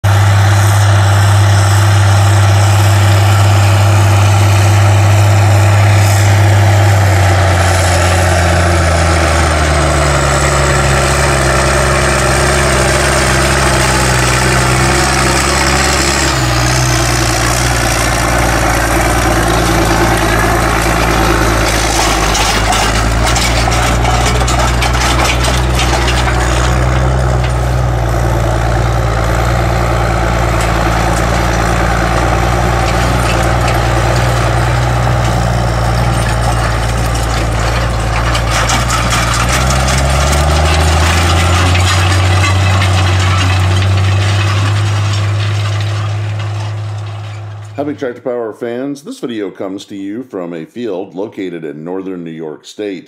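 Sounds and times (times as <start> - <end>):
tractor diesel engine under load: 0.0 - 53.0
tillage discs clattering: 2.2 - 47.8.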